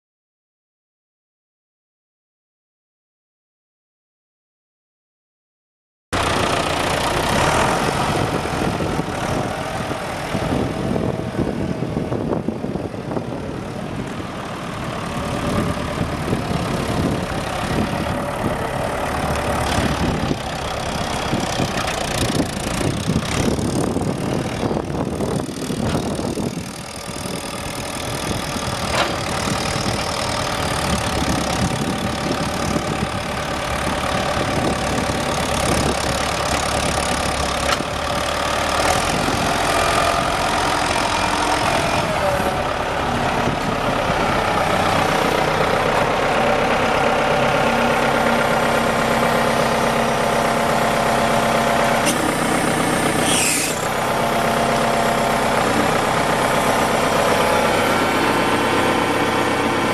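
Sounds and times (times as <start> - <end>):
tractor diesel engine running: 6.2 - 59.9.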